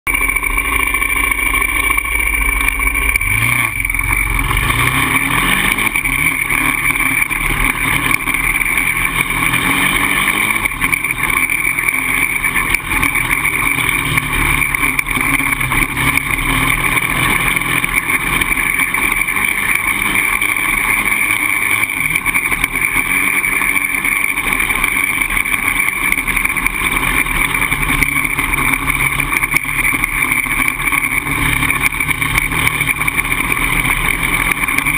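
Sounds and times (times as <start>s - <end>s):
quad engine running: 0.0s - 34.9s.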